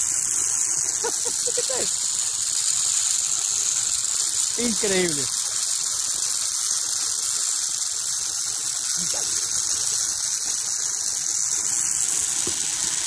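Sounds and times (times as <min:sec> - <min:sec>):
wheels rolling along steel cable: 0:00.0 - 0:13.0.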